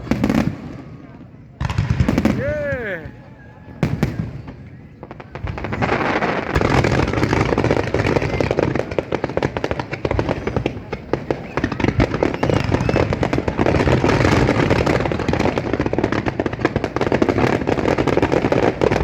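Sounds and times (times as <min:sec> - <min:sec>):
fireworks cracking and popping: 0:00.0 - 0:19.0
low rumble of firework bursts: 0:00.0 - 0:19.0.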